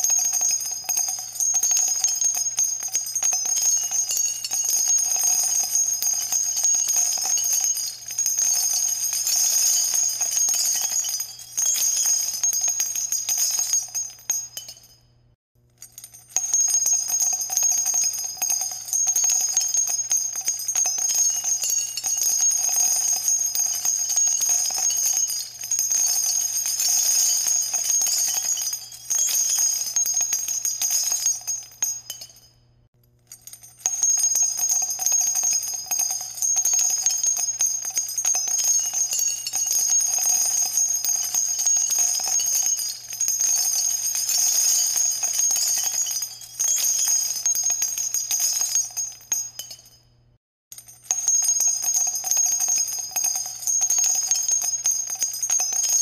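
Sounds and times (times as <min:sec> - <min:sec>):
music with bells and chimes: 0:00.0 - 0:15.0, 0:16.4 - 0:32.6, 0:33.9 - 0:50.1, 0:50.8 - 0:56.0.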